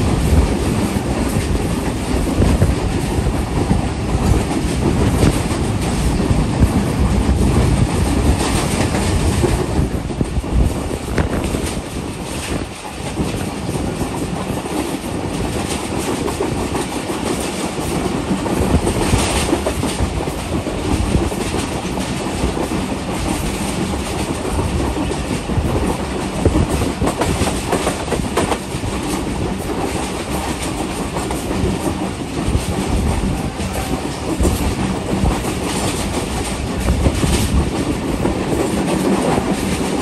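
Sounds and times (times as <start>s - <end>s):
train rumble and rush: 0.0s - 40.0s
wheels clicking over rail joints: 0.0s - 40.0s.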